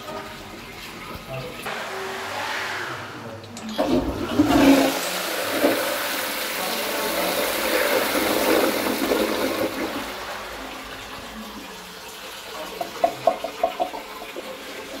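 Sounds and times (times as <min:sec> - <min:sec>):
toilet flushing: 0:00.0 - 0:15.0.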